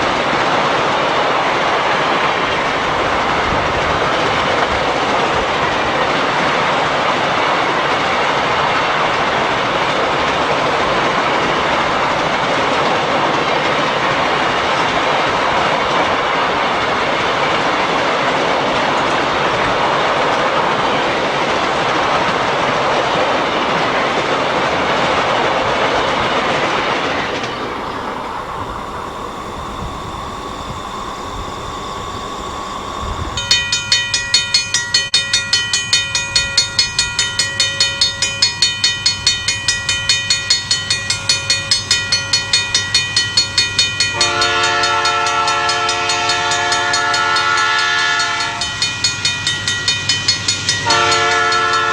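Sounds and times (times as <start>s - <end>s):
ringing bell: 0.0s - 51.9s
train rumble: 0.0s - 51.9s
train wheels clicking on rails: 0.0s - 51.9s.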